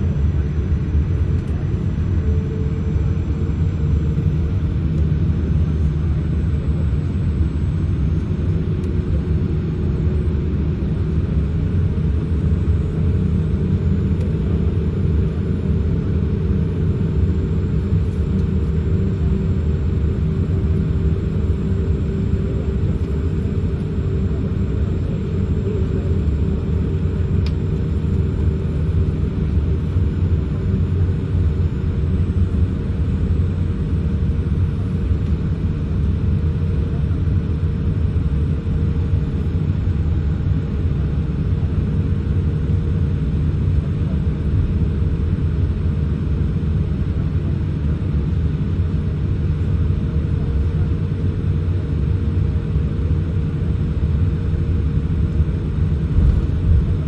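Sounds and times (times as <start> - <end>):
low rumble inside airplane cabin: 0.0 - 57.0.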